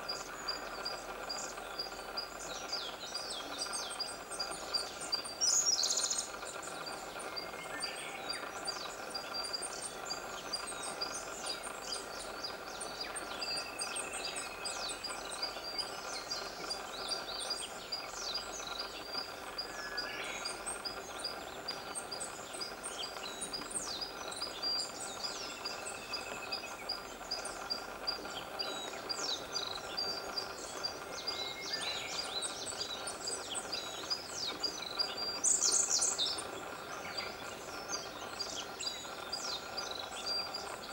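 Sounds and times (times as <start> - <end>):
background hiss: 0.0 - 40.9
birds chirping and singing: 0.0 - 40.9.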